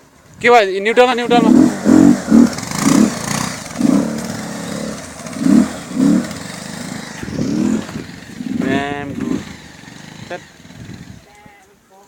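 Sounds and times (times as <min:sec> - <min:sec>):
motorcycle engine revving: 0:00.9 - 0:11.4.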